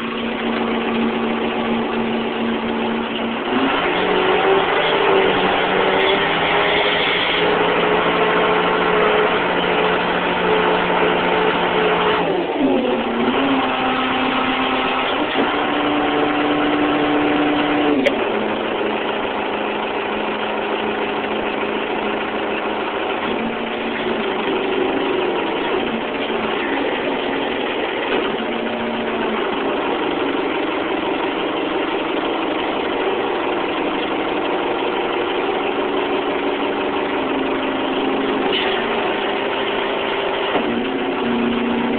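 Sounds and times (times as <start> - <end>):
forklift engine running: 0.0 - 41.9.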